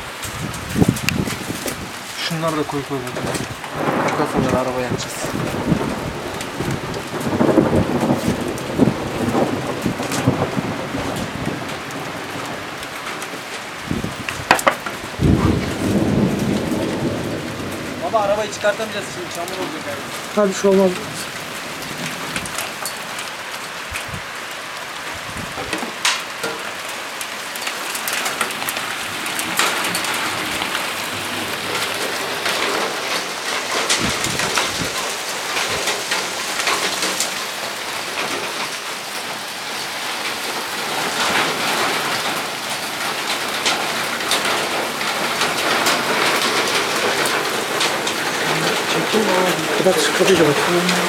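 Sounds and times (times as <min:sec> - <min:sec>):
heavy rain pouring: 0:00.0 - 0:51.0
raindrops tapping: 0:00.0 - 0:51.0.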